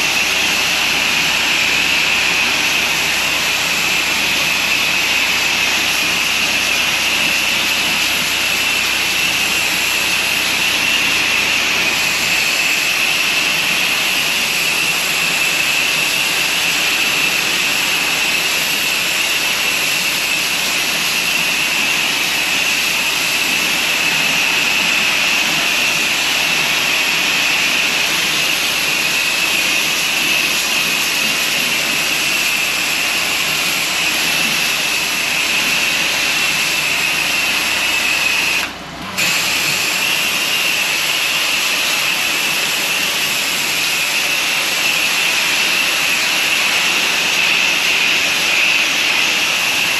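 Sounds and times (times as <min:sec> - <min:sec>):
pressure washer spraying water: 0:00.0 - 0:49.9.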